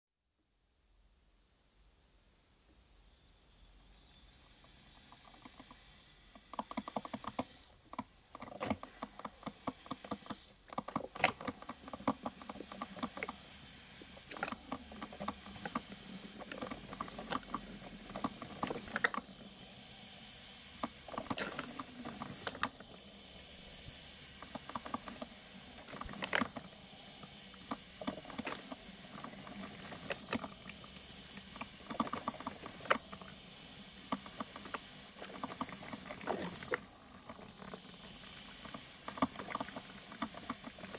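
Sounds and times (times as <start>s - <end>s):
faint high whine: 0.4s - 40.9s
coffee machine crackling and sputtering: 4.6s - 40.9s.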